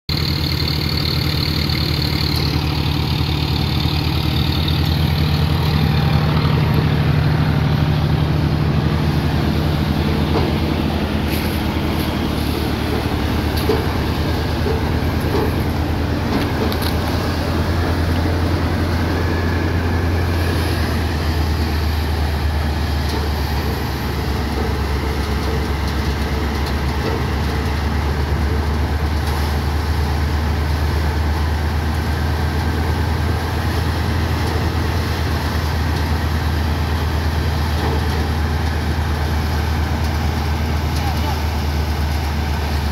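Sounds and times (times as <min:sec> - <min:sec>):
thresher machine drone: 0:00.1 - 0:42.9.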